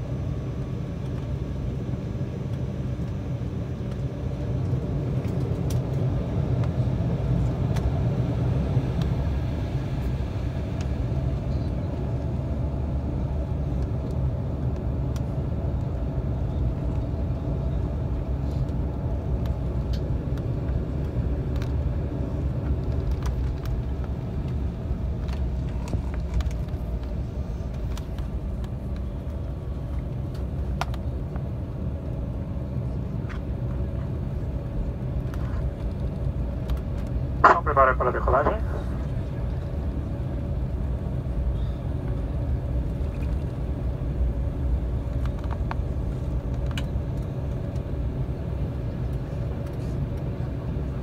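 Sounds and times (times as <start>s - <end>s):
airliner cabin rumble: 0.0s - 51.0s.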